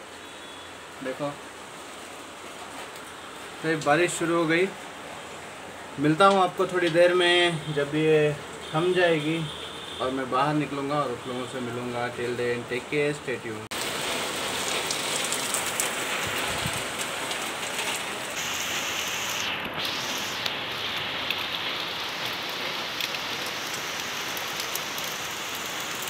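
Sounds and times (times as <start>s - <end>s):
raindrops pattering on surfaces: 0.0s - 10.9s, 13.7s - 26.0s
heavy rain hissing: 0.0s - 12.6s, 13.6s - 26.0s.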